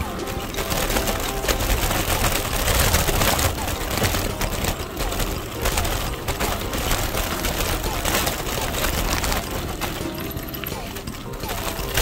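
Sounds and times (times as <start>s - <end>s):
bicycle tyres crunching on gravel: 0.0s - 12.0s
bike rattling over bumps: 0.0s - 12.0s.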